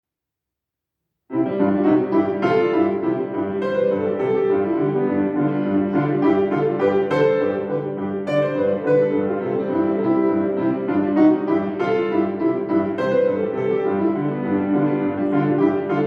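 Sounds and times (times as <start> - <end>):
lively piano polka: 1.3 - 16.0.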